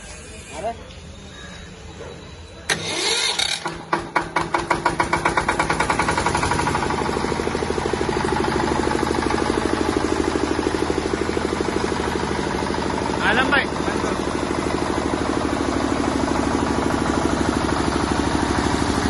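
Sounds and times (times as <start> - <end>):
diesel generator starting up: 1.8 - 19.0.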